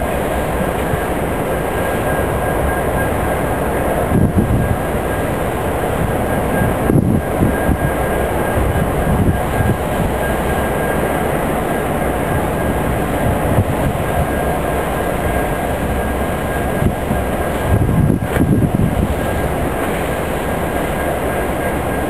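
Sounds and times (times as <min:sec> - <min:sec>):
diesel locomotive engine rumbling: 0:00.0 - 0:22.0
faint high whine: 0:00.0 - 0:22.0.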